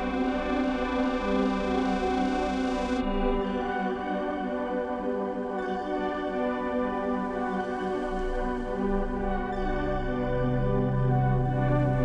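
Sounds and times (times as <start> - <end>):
music of long held chords: 0.0 - 12.0.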